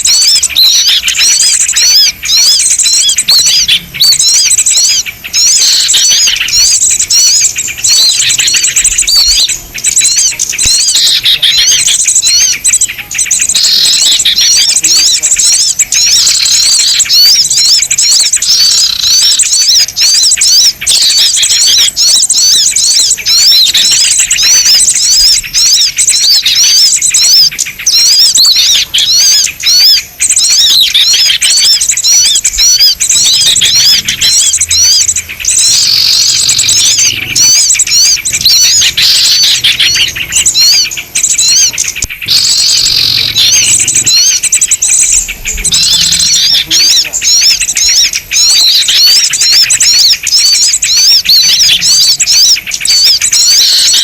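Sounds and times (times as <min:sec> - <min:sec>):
small birds chattering: 0:00.0 - 0:54.0.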